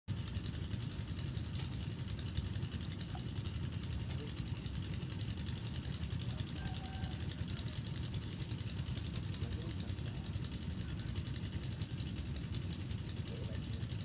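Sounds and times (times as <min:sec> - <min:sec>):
small engine running: 0:00.1 - 0:14.0.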